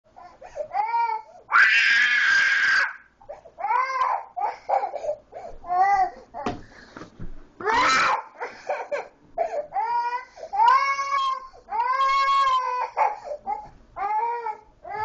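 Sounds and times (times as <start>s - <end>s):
toddler crying: 0.2s - 2.8s, 3.6s - 5.0s, 5.6s - 6.6s, 7.6s - 15.0s.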